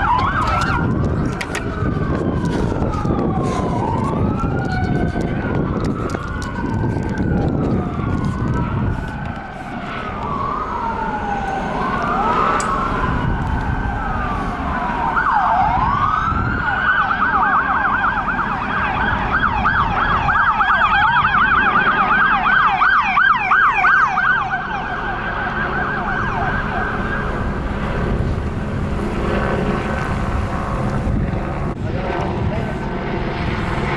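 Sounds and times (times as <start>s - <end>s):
police car siren: 0.0s - 33.9s
vehicle engine and road noise: 0.0s - 33.9s.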